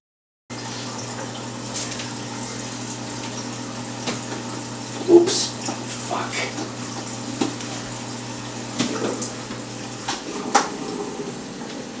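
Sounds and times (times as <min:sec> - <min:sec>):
low pump hum: 0:00.5 - 0:12.0
water running from hose: 0:00.5 - 0:12.0.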